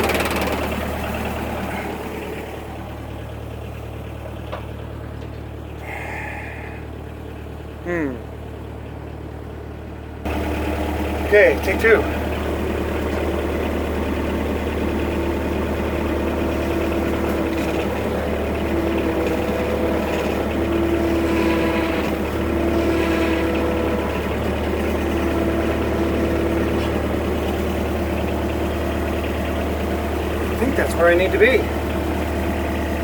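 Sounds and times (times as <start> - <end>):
skid-steer loader engine running: 0.0 - 33.0.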